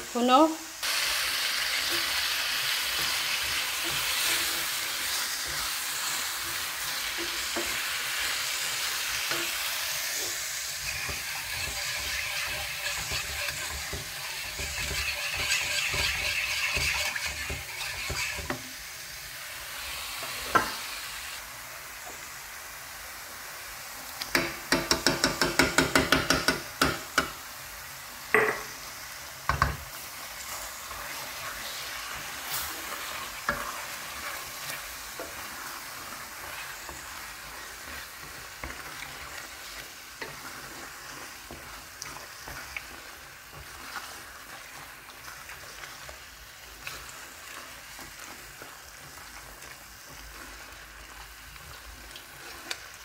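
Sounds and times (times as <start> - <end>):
food sizzling in a frying pan: 0.0 - 53.0.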